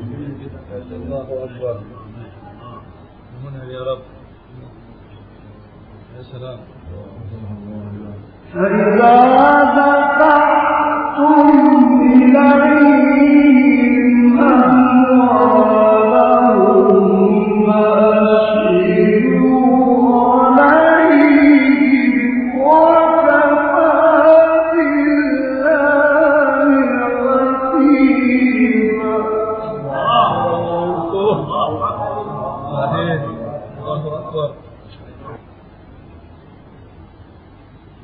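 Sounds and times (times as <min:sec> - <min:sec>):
man chanting melodic recitation: 0:00.0 - 0:35.5.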